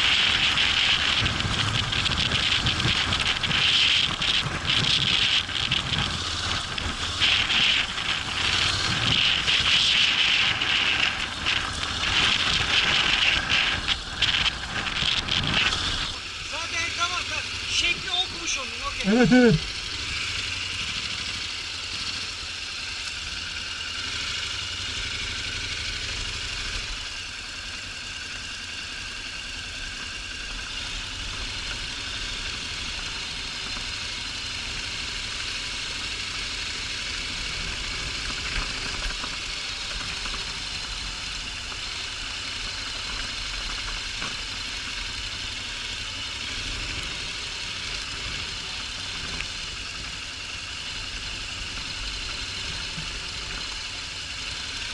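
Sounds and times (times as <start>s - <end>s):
motorcycle engine running steadily: 0.0s - 54.9s
wind and road noise: 0.0s - 54.9s.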